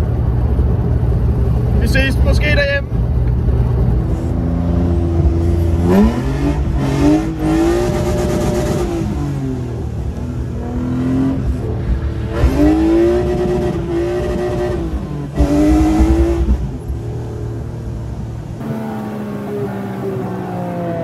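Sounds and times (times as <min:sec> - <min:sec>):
car engine revving: 0:00.0 - 0:21.0
tyre and road noise: 0:00.0 - 0:21.0.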